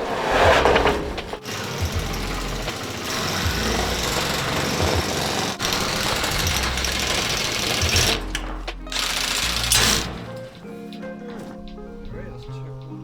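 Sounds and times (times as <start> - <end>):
busy background music: 0.4 - 13.0.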